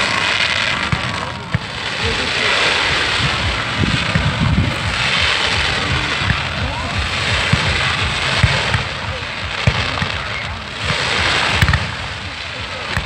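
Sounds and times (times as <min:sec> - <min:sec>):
fireworks crackling hiss: 0:00.0 - 0:13.0
fireworks low thumps: 0:00.0 - 0:13.0.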